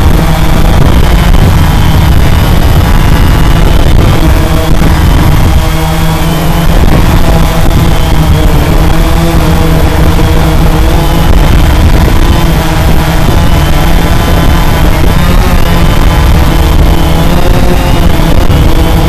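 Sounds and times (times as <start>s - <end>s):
quadcopter motors droning: 0.0s - 19.0s
wind on microphone: 0.0s - 19.0s.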